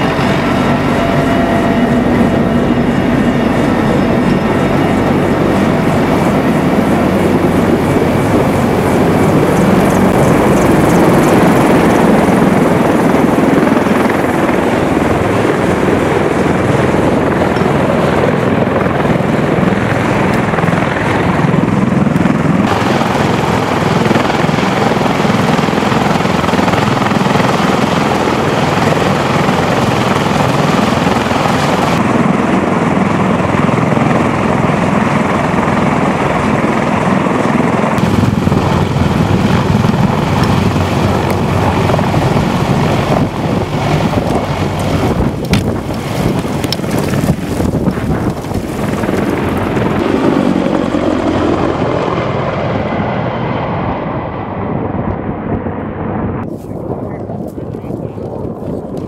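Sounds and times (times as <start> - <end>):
helicopter rotors and engines: 0.0 - 59.0.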